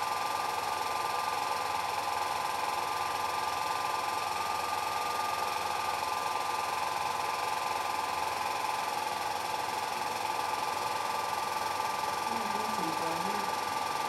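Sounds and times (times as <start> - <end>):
film projector whirring: 0.0 - 14.0.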